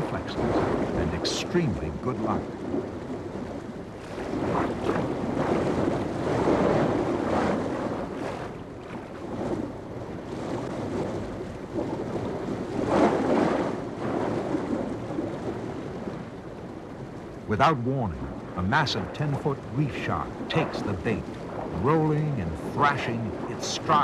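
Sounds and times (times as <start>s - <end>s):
water splashing and churning: 0.0s - 24.0s.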